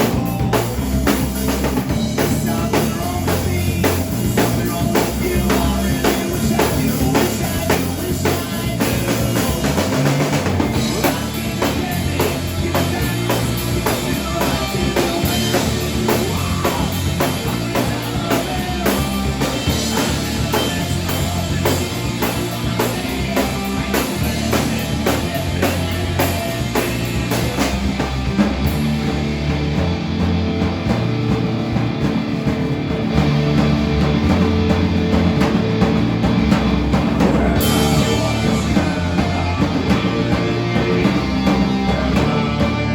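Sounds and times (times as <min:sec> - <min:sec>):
drum kit beat: 0:00.0 - 0:42.9
rock music: 0:00.0 - 0:42.9.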